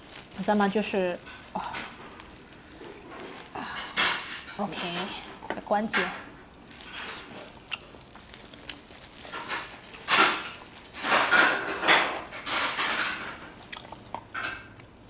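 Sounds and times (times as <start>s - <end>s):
crab shell crunching: 0.0s - 15.0s
plastic gloves crinkling: 0.0s - 15.0s.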